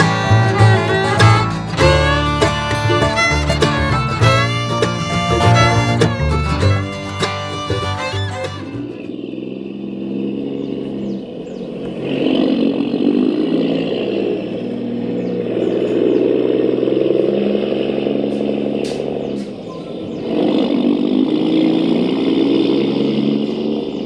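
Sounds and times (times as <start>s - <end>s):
model truck engine drone: 0.0s - 24.0s.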